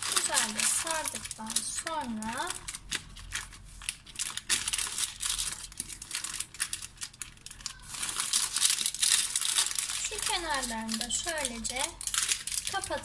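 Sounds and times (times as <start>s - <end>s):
parchment paper crinkling: 0.0s - 13.0s.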